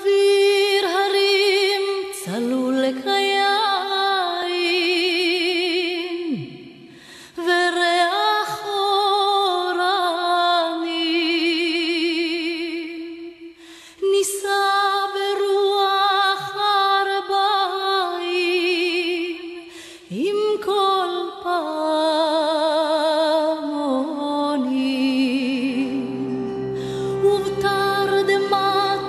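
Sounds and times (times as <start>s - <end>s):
woman singing slow song: 0.0s - 29.0s.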